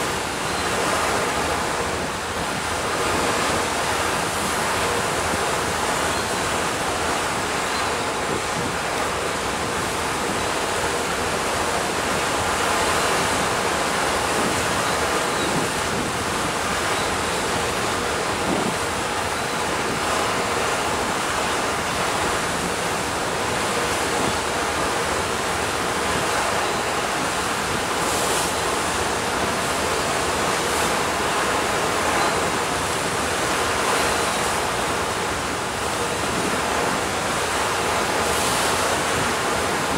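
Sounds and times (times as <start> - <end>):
sea water rushing: 0.0 - 39.9
wind noise on microphone: 0.0 - 39.9.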